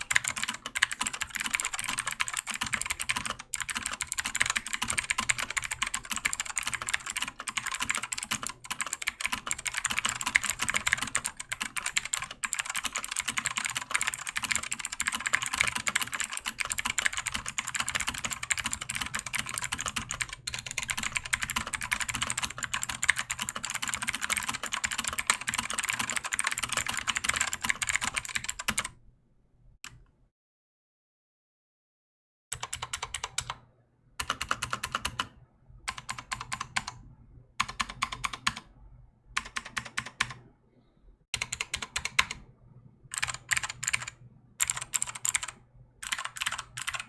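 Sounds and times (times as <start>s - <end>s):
clicky keyboard typing: 0.0s - 28.9s, 32.5s - 33.6s, 34.2s - 37.0s, 37.6s - 38.7s, 39.4s - 40.4s, 41.4s - 42.4s, 43.1s - 47.0s.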